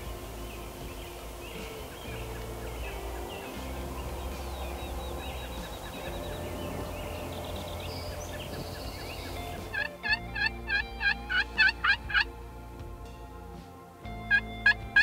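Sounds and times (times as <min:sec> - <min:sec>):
turkey calling: 0:00.0 - 0:12.4, 0:14.2 - 0:15.0.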